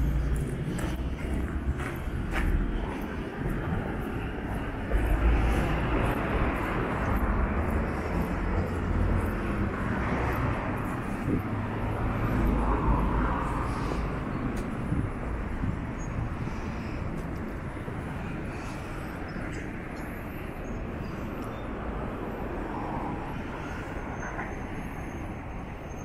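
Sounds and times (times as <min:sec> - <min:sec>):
road traffic roar: 0:00.0 - 0:26.0.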